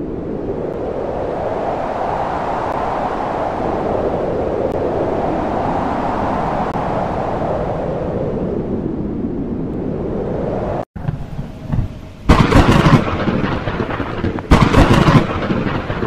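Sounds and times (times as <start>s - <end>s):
strong wind: 0.0s - 16.0s.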